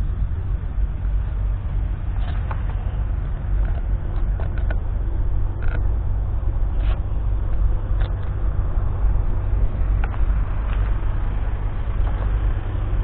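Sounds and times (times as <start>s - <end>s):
tractor engine rumbling under load: 0.0s - 13.0s.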